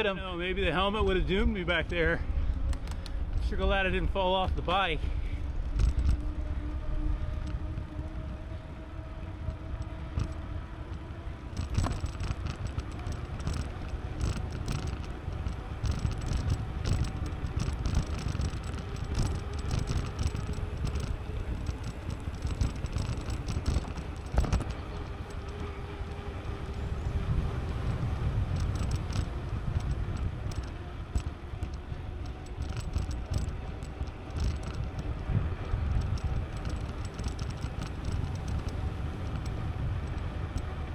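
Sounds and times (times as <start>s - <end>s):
bicycle tyres rolling: 0.0s - 40.9s
bike rattles and clicks: 0.0s - 40.9s
wind on microphone: 0.5s - 40.9s.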